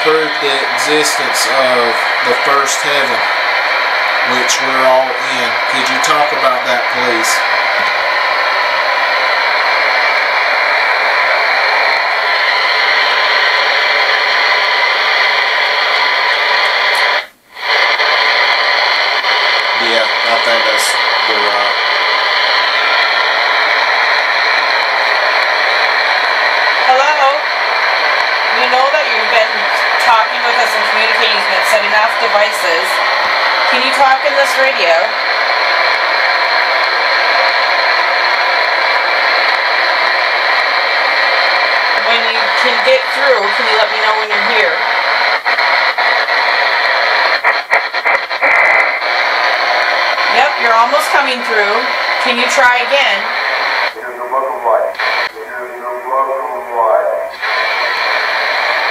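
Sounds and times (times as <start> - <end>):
radio static hiss: 0.0 - 58.9.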